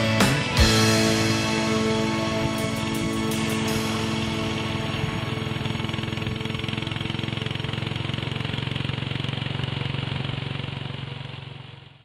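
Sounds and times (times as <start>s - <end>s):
road and wind noise: 0.0s - 11.9s
motorcycle engine cruising: 0.0s - 12.0s.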